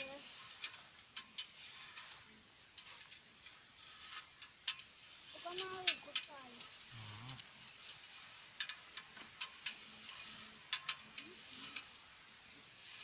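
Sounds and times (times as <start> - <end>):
berry picker rasping strokes: 0.0 - 13.0
leaves rustling: 0.0 - 13.0.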